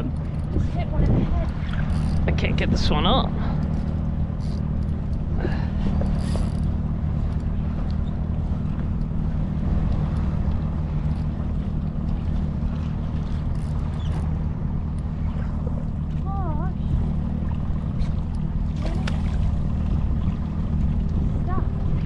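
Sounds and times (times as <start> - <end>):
outboard motor idling: 0.0 - 22.0
water noise: 0.0 - 22.0
wind: 0.0 - 22.0.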